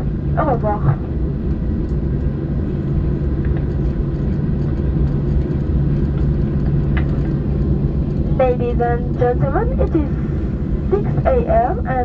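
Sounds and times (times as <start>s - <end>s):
airplane cabin rumble: 0.0s - 12.0s
jet engine hum: 0.0s - 12.0s.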